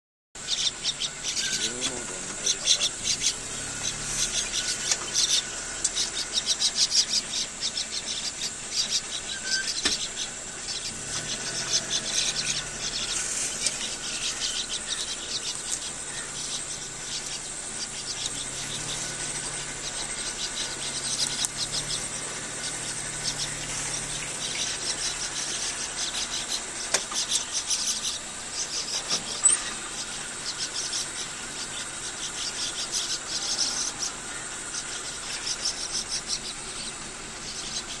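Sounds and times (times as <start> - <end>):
insects chirring: 0.4 - 38.0.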